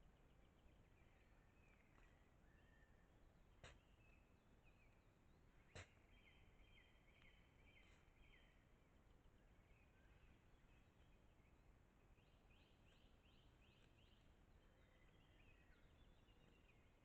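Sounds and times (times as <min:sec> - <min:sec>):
faint birdsong chirping: 0:00.0 - 0:17.0.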